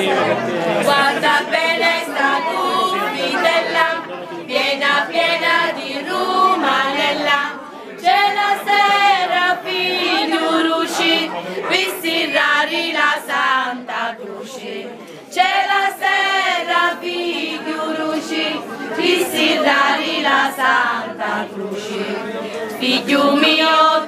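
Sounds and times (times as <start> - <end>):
women singing in chorus: 0.0 - 24.0.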